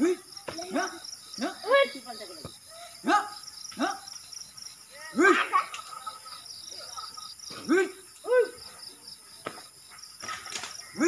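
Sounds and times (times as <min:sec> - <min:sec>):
insect chorus shrilling: 0:00.0 - 0:11.0.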